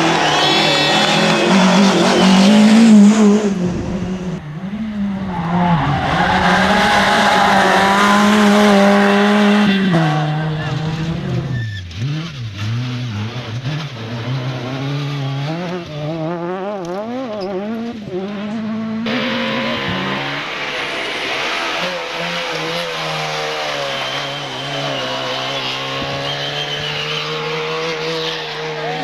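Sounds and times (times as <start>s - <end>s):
car engine at high pitch: 0.0s - 29.0s
race car engine revving: 0.0s - 29.0s.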